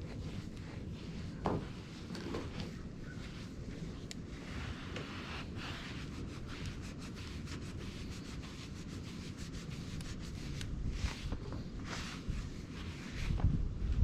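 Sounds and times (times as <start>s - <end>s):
cloth rubbing on tabletop: 0.0s - 14.0s.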